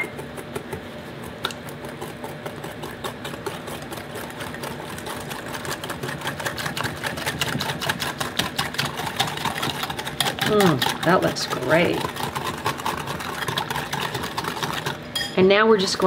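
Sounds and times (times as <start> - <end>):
whisk clicking in ceramic bowl: 0.0 - 15.3.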